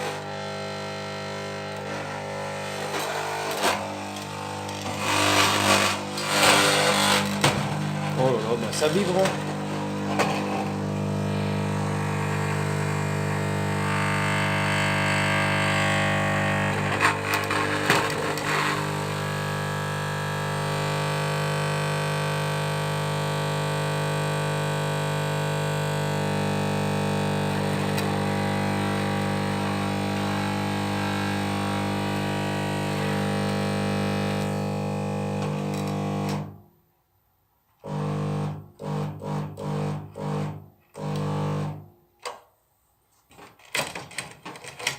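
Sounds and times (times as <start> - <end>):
fluorescent ballast buzzing: 0.0 - 36.6, 37.8 - 41.8.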